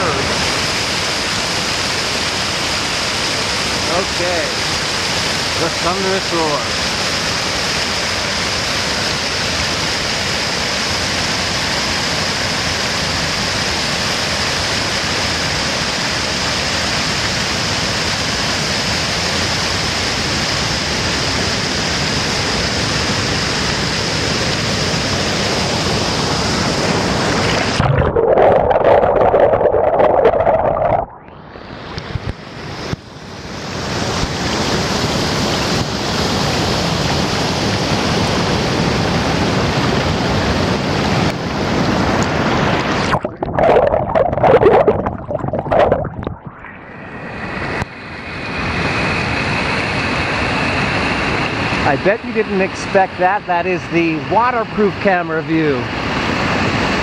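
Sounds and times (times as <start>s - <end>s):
waterfall rushing roar: 0.0s - 31.0s, 31.6s - 57.0s.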